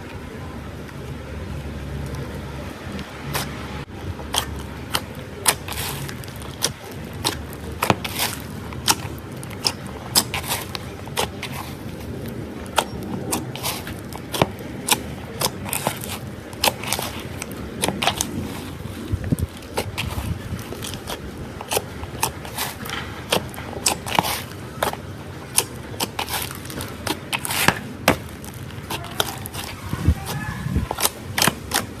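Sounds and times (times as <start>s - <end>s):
slime squishing with sticky pops: 3.3s - 32.0s.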